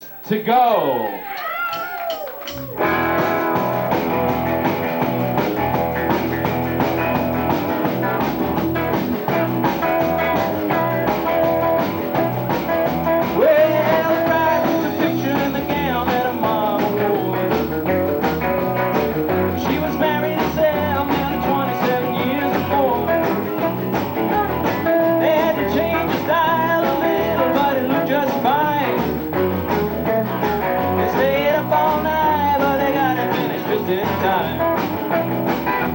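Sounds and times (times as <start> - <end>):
rock band playing: 1.8 - 35.9.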